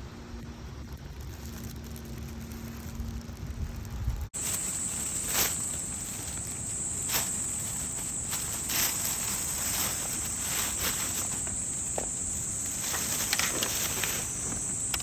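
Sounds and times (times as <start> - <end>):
insects chirring: 0.4 - 15.0.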